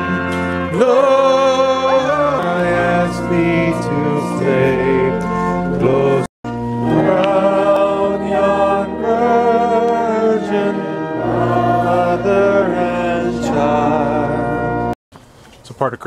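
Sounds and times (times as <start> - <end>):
congregation singing a hymn: 0.0 - 15.0
instrumental accompaniment: 0.0 - 15.0.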